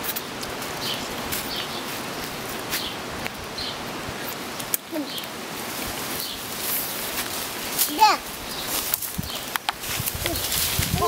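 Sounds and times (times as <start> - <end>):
rustling hiss: 0.0 - 11.0.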